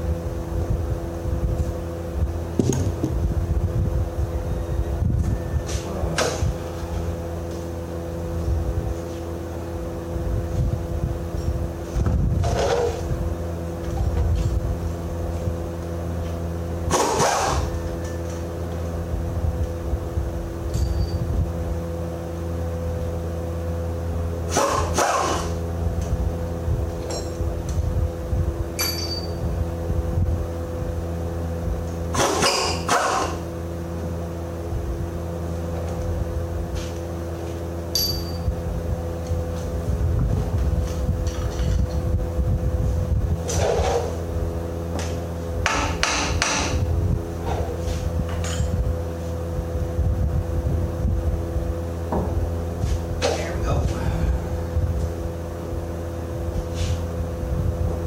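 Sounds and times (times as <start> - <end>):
harsh machine working noise: 0.0 - 58.0.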